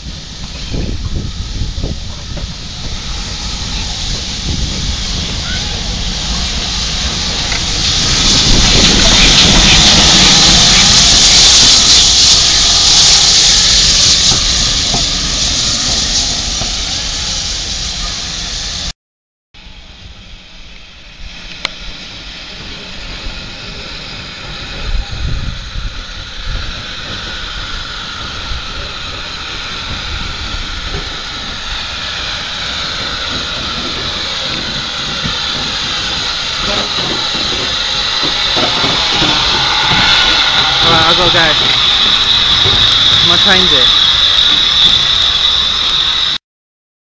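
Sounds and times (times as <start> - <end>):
steam locomotive hissing: 0.0 - 18.9, 19.6 - 46.4.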